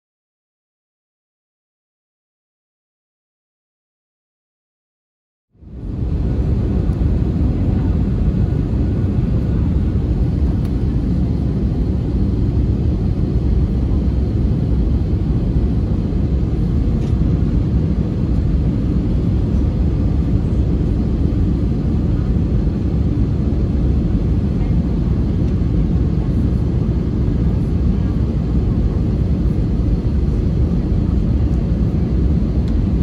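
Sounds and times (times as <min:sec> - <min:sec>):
airplane cabin rumble: 0:05.6 - 0:33.0.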